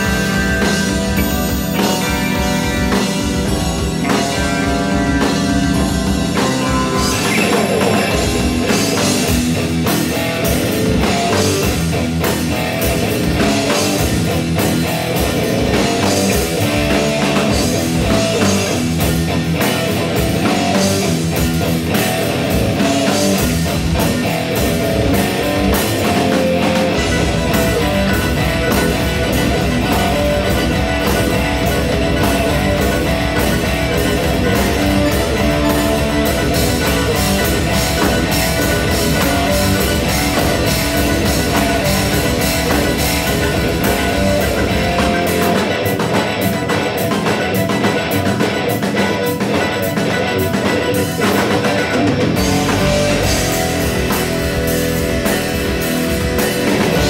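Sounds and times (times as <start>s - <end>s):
bass guitar: 0.0s - 57.0s
drum kit: 0.0s - 57.0s
electric guitar: 0.0s - 57.0s
keyboards: 0.0s - 57.0s.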